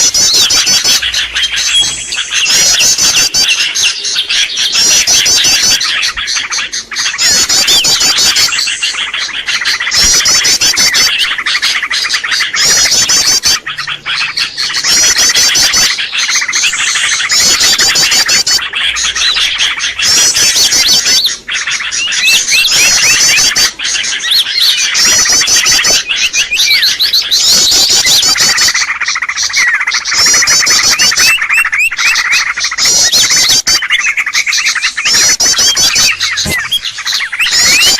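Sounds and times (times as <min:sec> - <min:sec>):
small birds chirping and trilling: 0:00.0 - 0:37.9.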